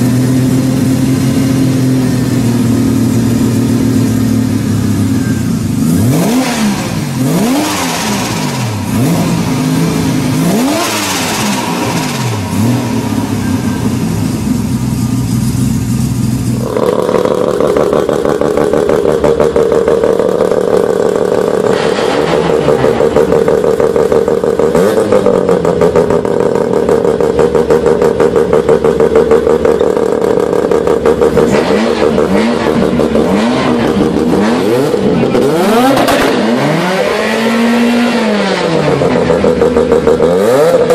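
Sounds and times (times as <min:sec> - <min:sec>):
turbo engine choppy idle: 0:00.0 - 0:36.9, 0:37.5 - 0:40.9
rotary engine revving: 0:00.0 - 0:40.9.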